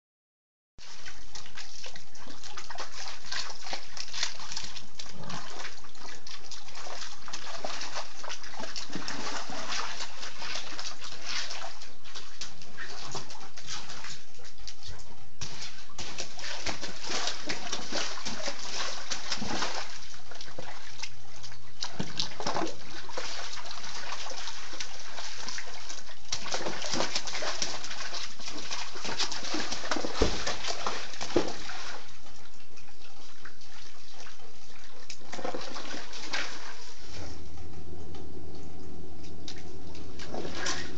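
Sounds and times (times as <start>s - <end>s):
dog splashing in water: 0.8s - 37.4s, 39.5s - 40.9s.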